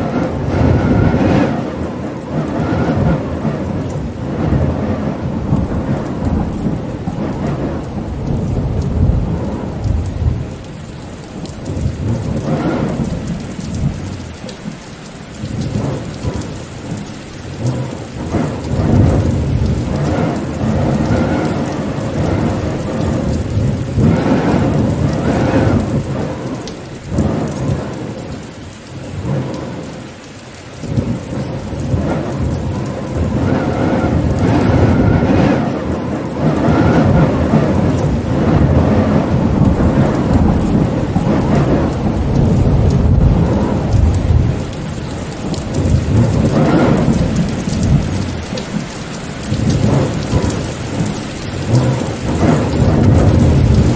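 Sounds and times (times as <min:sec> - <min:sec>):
rain falling: 0:00.0 - 0:53.9
rumbling wind: 0:00.0 - 0:53.9.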